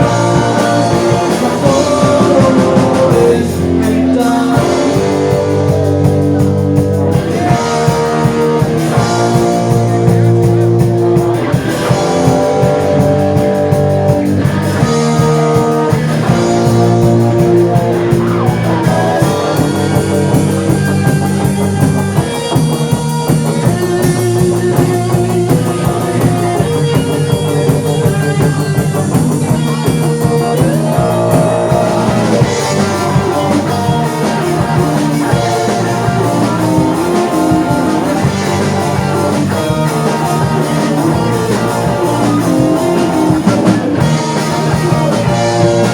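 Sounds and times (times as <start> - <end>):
bass line: 0.0 - 45.9
drums: 0.0 - 45.9
melodic instrumental lines: 0.0 - 45.9.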